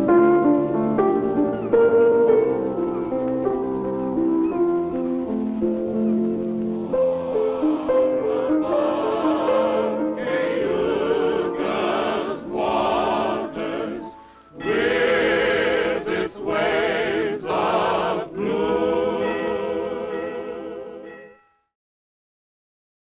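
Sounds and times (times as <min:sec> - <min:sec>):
choir singing: 0:00.0 - 0:21.4.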